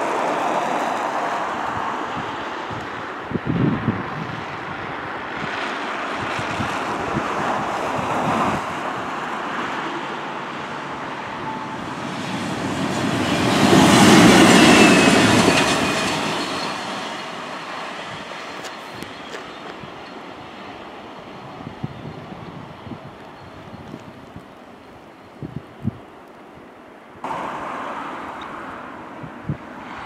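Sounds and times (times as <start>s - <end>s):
train passing: 0.0s - 25.4s, 27.2s - 30.0s.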